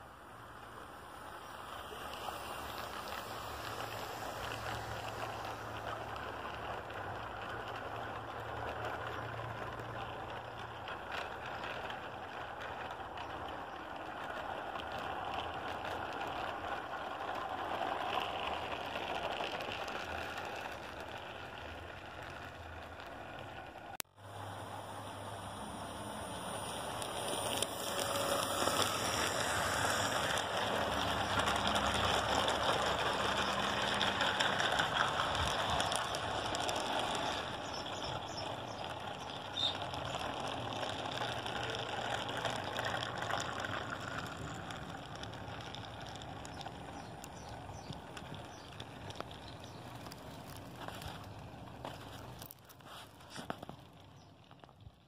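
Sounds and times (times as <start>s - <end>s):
model train wheels rattling on rails: 0.0s - 55.0s.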